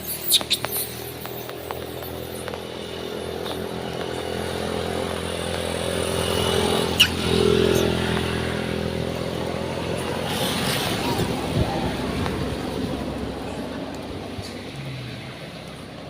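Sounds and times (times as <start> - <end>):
passing vehicle engine: 0.0 - 16.0.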